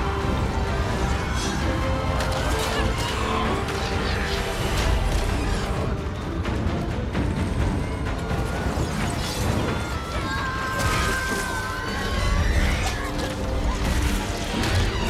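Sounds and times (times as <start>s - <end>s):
action film music: 0.0s - 15.0s.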